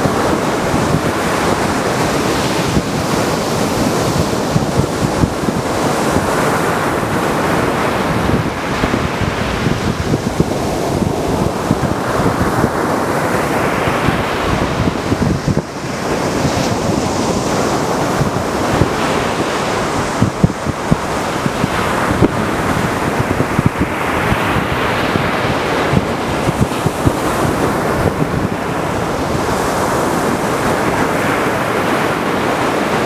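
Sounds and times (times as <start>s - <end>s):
waves breaking on a beach: 0.0s - 33.0s
wind buffeting microphone: 0.0s - 33.0s.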